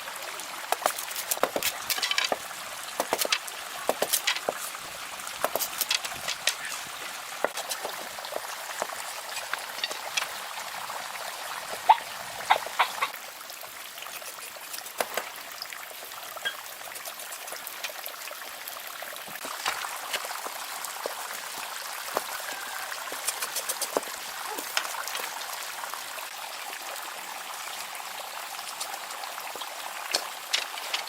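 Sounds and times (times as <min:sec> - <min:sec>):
small water splashes and drips: 0:00.0 - 0:31.0
water trickling: 0:00.0 - 0:31.0.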